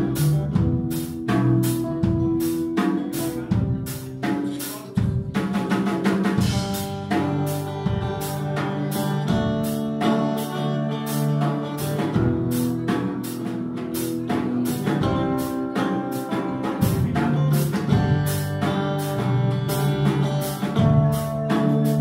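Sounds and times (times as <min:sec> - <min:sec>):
electric guitar notes: 0:00.0 - 0:04.3, 0:06.4 - 0:22.0
drum kit with cymbal: 0:00.0 - 0:22.0.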